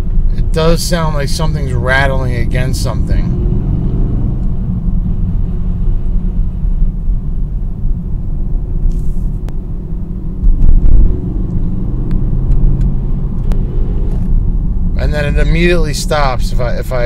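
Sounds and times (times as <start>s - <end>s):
car engine rumbling on overrun: 0.0s - 17.0s.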